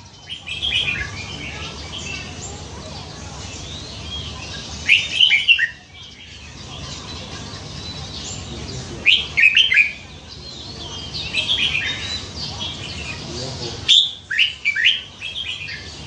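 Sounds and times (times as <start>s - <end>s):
bird singing whistled notes: 0.0s - 2.5s, 3.5s - 16.0s.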